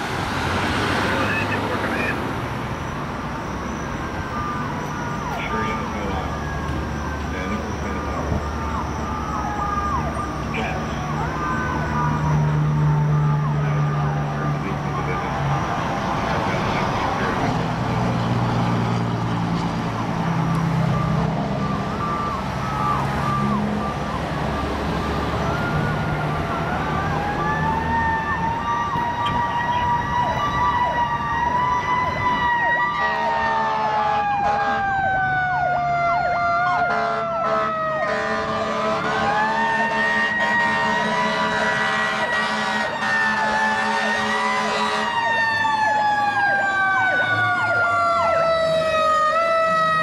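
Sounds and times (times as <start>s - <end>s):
electric siren wailing: 1.0s - 17.6s, 19.8s - 50.0s
fast falling siren tone: 2.8s - 16.2s, 19.9s - 38.4s, 39.0s - 50.0s.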